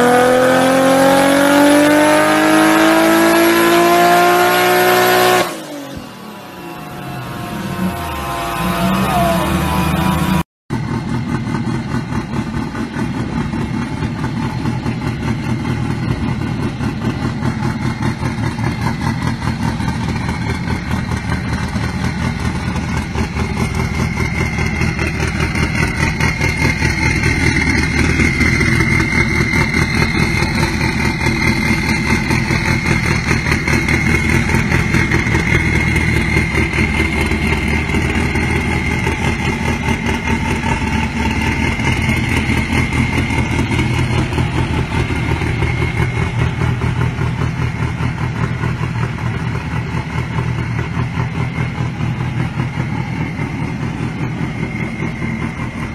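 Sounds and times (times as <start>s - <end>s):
car engine idling: 5.8s - 55.9s.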